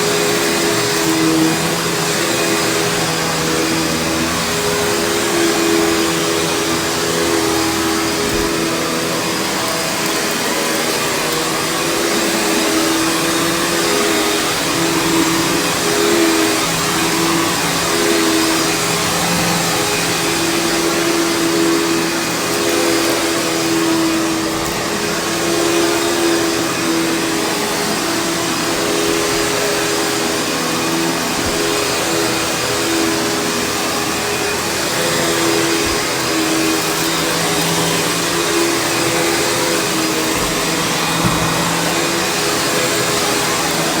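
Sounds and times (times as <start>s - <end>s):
vacuum cleaner running over carpet: 0.0s - 44.0s.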